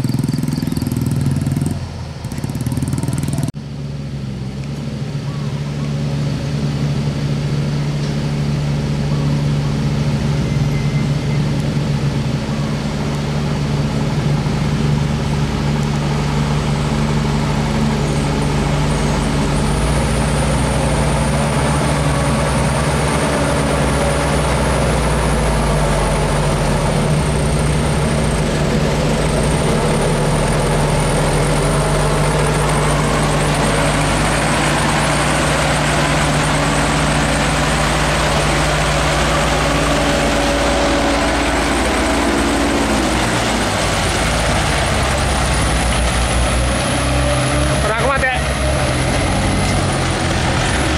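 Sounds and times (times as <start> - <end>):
truck diesel engine at low speed: 0.0 - 50.9.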